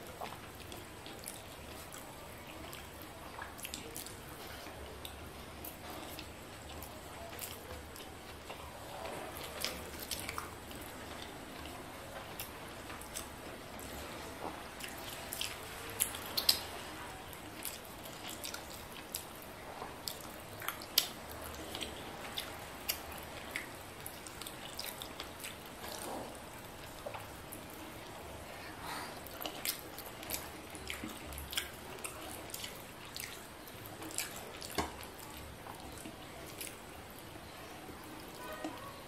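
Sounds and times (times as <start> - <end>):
wet chewing and lip smacks: 0.0 - 8.6, 9.4 - 14.0, 14.8 - 16.7, 17.4 - 37.2.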